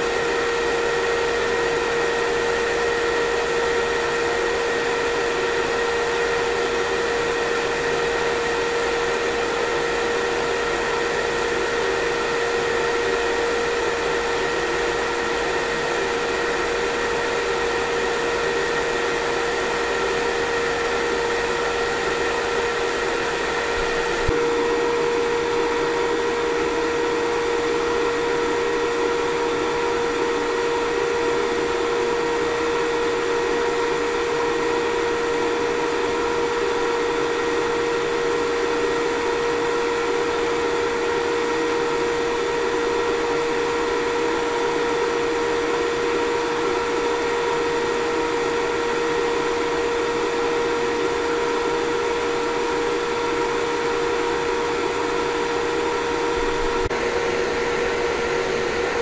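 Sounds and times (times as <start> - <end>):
cooling fan rushing: 0.0 - 59.0.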